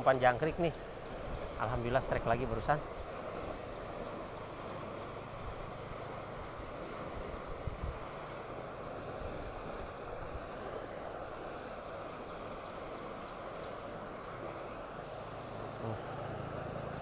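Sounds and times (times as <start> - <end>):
fast-flowing river rushing: 0.0 - 17.0.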